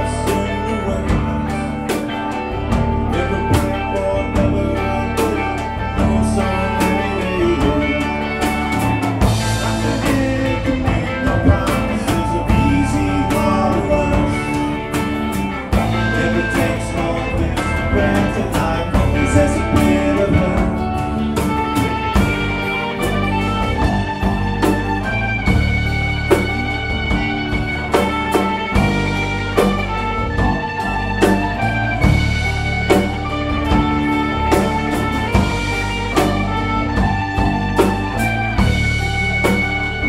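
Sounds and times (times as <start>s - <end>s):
bass guitar: 0.0s - 40.0s
drum kit playing steady beat: 0.0s - 40.0s
electric guitars: 0.0s - 40.0s
strummed acoustic guitar: 0.0s - 40.0s.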